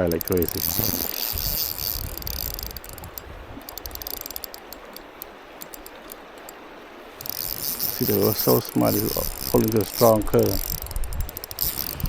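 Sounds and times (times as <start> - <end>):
fishing reel ticking: 0.0 - 12.0.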